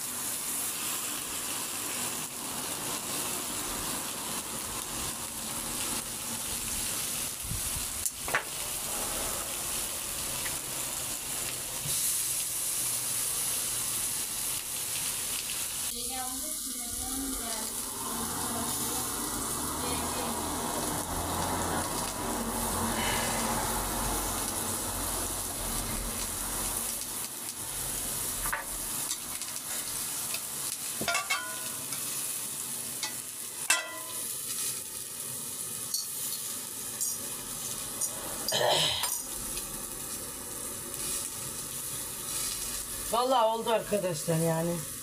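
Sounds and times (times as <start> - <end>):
vegetables sizzling on a griddle: 0.0 - 45.0.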